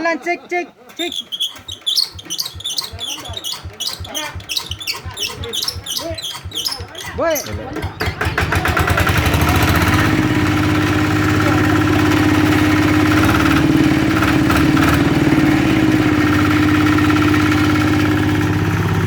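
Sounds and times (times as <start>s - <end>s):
small engine idling: 0.9s - 19.0s.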